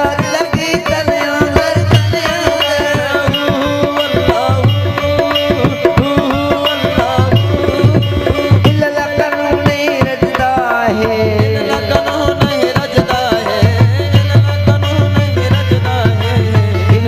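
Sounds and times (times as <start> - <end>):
hand drum beat: 0.0 - 17.0
harmonium melody: 0.0 - 17.0.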